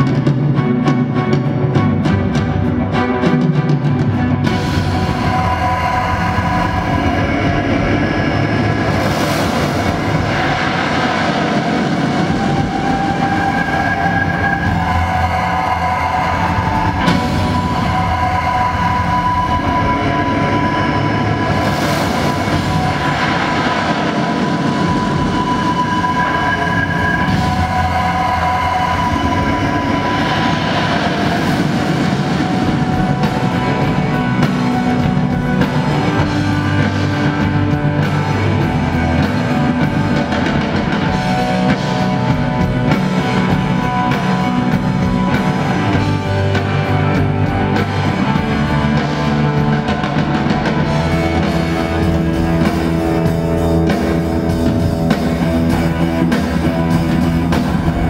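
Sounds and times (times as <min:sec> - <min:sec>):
rock music: 0:00.0 - 0:58.0
rumbling industrial effects: 0:00.0 - 0:58.0
show soundtrack music: 0:00.0 - 0:58.0.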